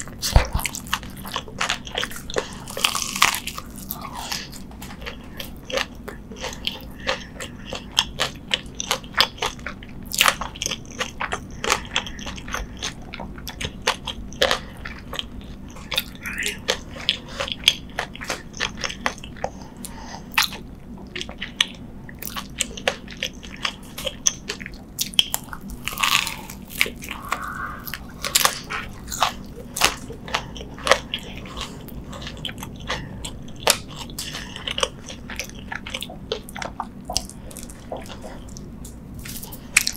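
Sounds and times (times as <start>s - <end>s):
chewing crunchy fried food: 0.0s - 39.9s.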